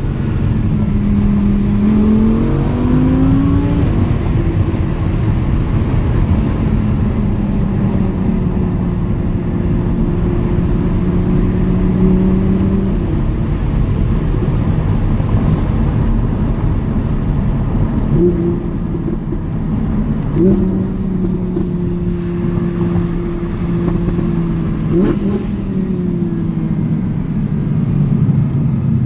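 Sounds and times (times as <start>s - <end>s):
car engine cruising: 0.0s - 29.0s
road and tyre noise: 0.0s - 29.0s.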